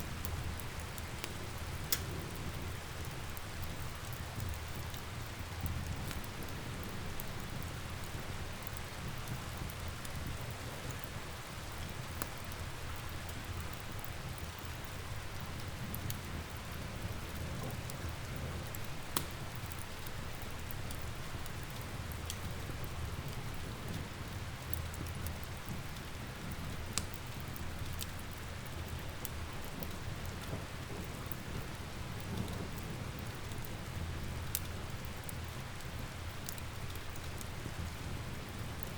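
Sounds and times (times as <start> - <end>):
steady rain: 0.0 - 38.9
wood fire crackling: 0.0 - 38.9.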